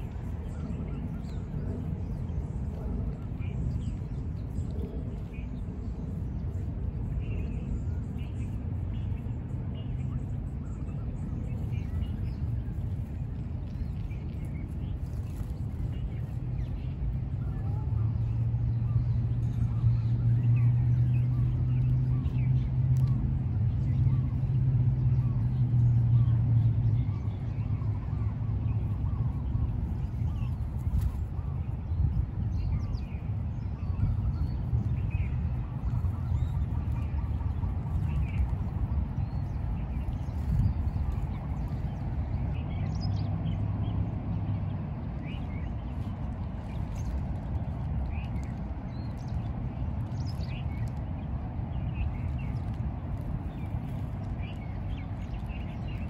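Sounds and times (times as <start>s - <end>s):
small birds chirping: 0.0s - 56.0s
steady low rumble: 0.0s - 56.0s.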